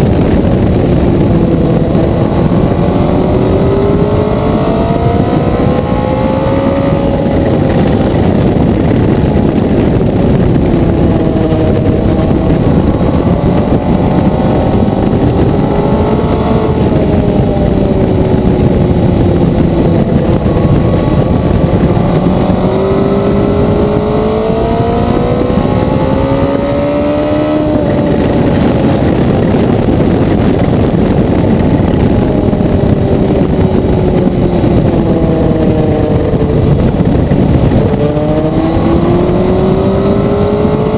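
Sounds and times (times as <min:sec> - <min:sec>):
heavy wind rush: 0:00.0 - 0:40.9
motorcycle engine revving: 0:00.0 - 0:40.9.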